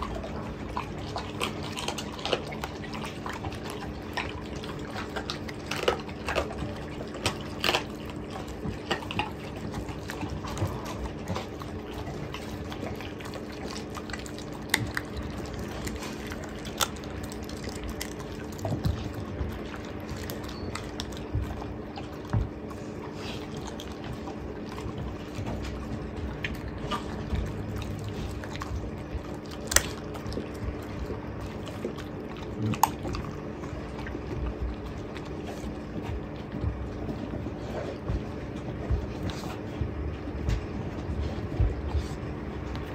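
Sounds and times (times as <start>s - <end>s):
dog chewing wet smacking: 0.0s - 42.9s
steady low hum: 0.0s - 42.9s
bones crunching: 0.7s - 37.2s.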